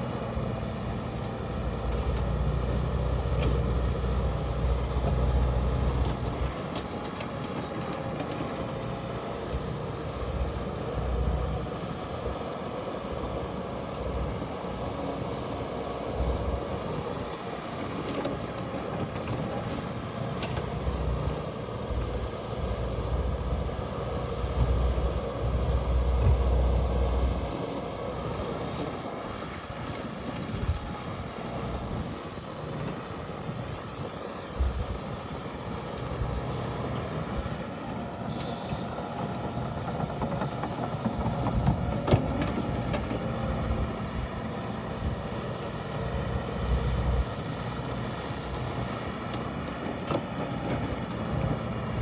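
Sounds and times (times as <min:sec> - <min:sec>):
utility vehicle engine running: 0:00.0 - 0:52.0.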